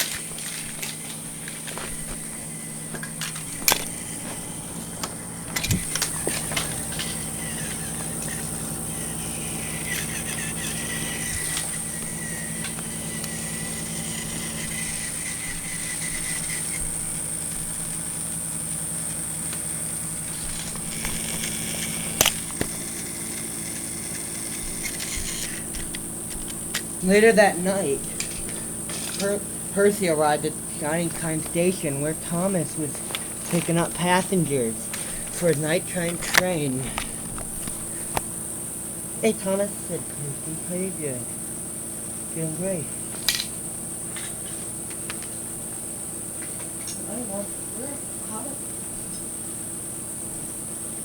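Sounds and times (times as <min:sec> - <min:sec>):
toy train motor whine: 0:00.0 - 0:51.0.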